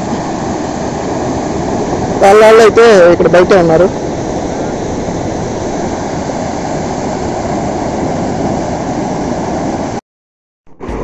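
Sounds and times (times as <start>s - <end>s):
sea surf rushing: 0.0s - 10.0s, 10.8s - 11.0s.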